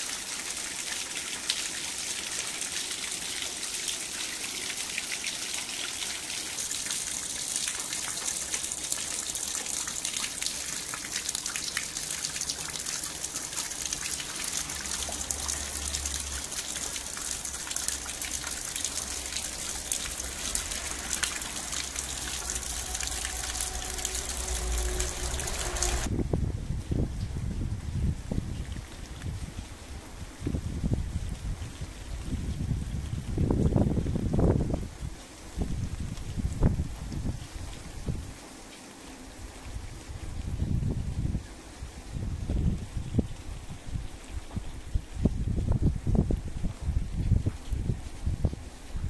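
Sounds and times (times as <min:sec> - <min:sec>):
rainwater splashing into puddle: 0:00.0 - 0:49.0.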